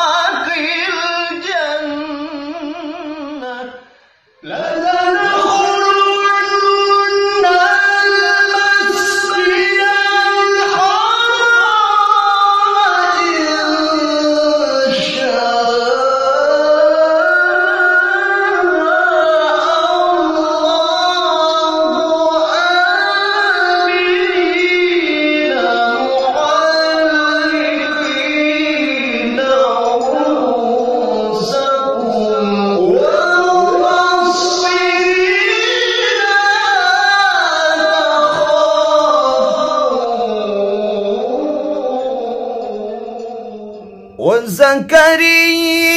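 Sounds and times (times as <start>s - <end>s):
man singing ornamented recitation: 0.0s - 45.9s.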